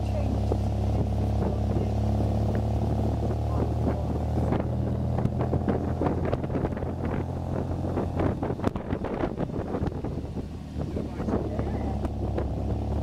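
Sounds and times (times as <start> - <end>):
car engine hum: 0.0 - 13.0
wind buffeting microphone: 0.0 - 13.0.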